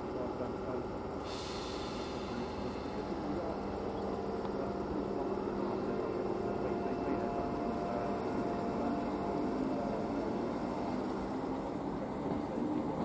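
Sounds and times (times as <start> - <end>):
electric train humming: 0.0 - 13.0
faint motor tone: 0.2 - 13.0.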